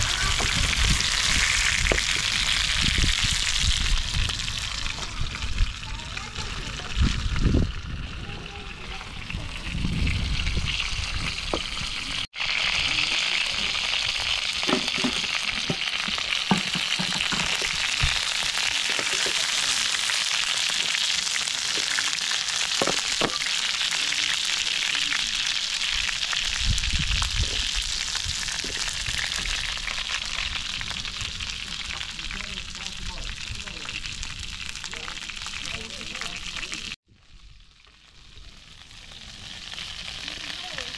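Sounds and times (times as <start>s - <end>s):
chicken sizzling in frying pan: 0.0s - 40.9s.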